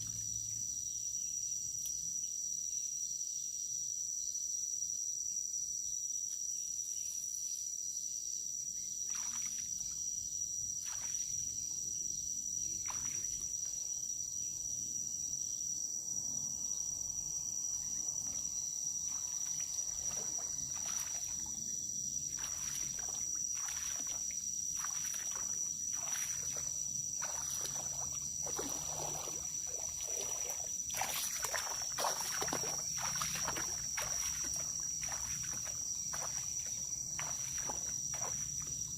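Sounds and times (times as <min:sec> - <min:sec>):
insect chorus droning: 0:00.0 - 0:38.9.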